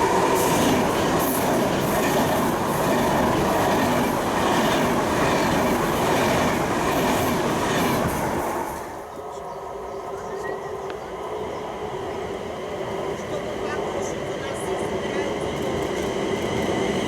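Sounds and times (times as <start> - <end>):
train wheels on rails: 0.0 - 9.2, 12.3 - 17.0.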